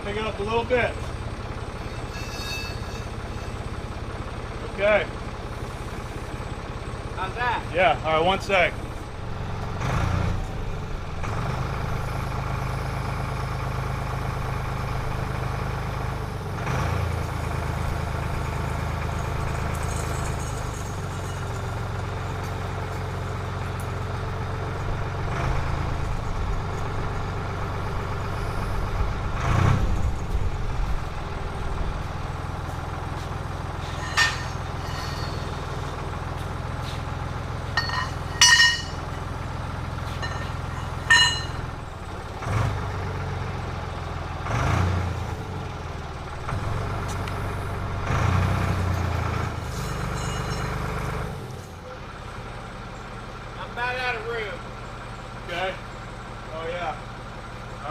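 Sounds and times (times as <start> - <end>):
forklift engine running: 0.0 - 57.9.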